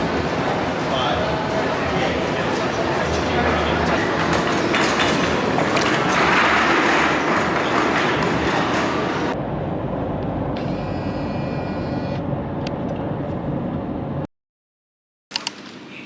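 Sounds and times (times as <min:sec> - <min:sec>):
moving vehicle rumble: 0:00.0 - 0:14.3.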